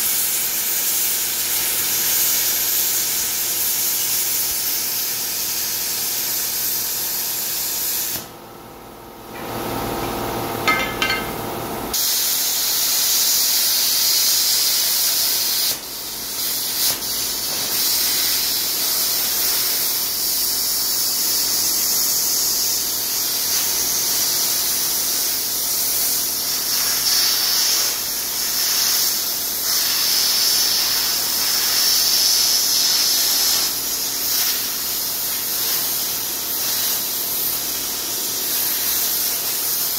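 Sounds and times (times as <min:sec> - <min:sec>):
plasma cutter hissing: 0:00.0 - 0:08.3, 0:11.9 - 0:39.9.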